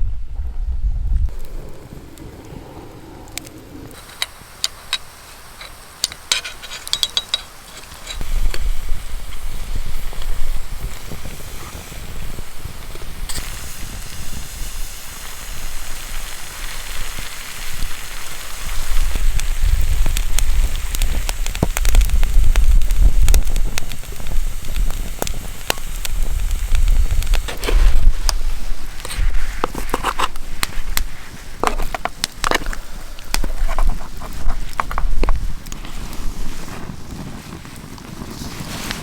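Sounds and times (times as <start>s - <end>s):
fire popping: 0.0s - 39.0s
campfire crackling: 1.1s - 39.0s.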